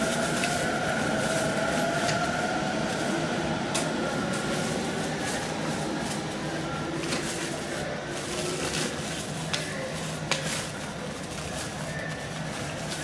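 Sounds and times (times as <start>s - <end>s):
electric trains rumbling: 0.0s - 13.0s.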